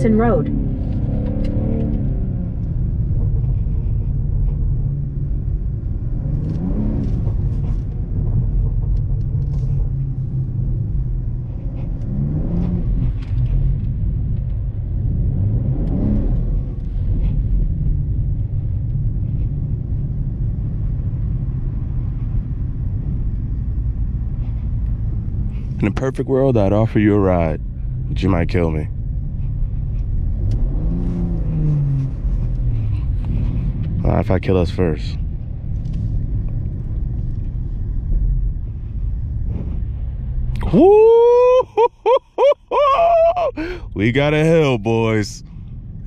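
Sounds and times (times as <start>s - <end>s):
car engine revving: 0.0s - 18.6s, 20.5s - 41.6s
tyres rumbling in snow: 0.0s - 46.0s.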